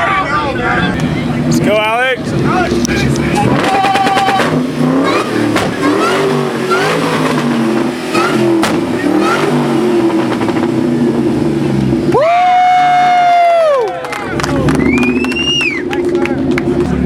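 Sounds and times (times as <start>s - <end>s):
car engine revving: 0.4s - 17.0s.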